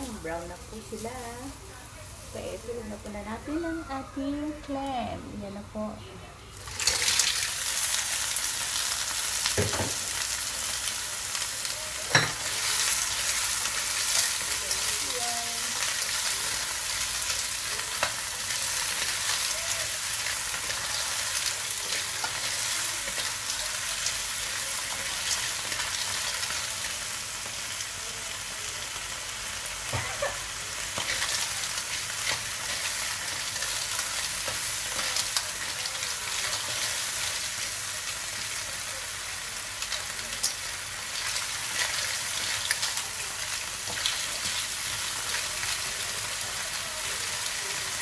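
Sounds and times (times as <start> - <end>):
clams sizzling in hot oil: 0.0 - 5.0, 6.5 - 48.0.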